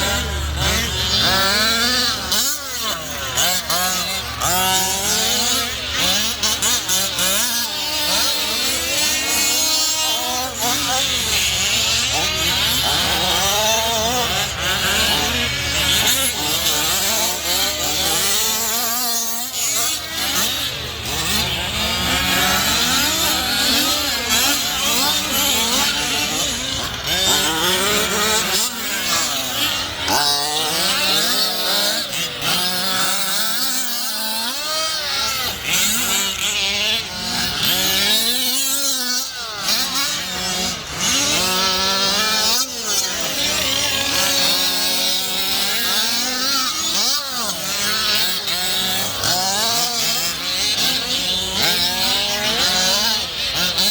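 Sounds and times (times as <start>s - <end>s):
small two-stroke engines revving: 0.0s - 53.9s.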